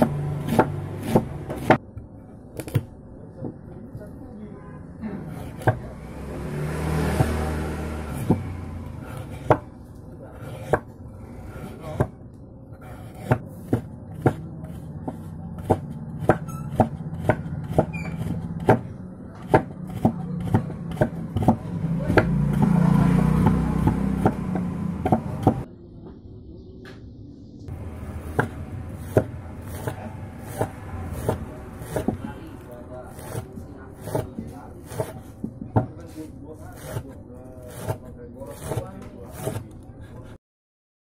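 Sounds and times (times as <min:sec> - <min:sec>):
knife chopping on wooden board: 0:00.0 - 0:01.8, 0:05.3 - 0:09.8, 0:10.4 - 0:12.2, 0:12.8 - 0:25.7, 0:27.7 - 0:36.1, 0:36.7 - 0:40.3.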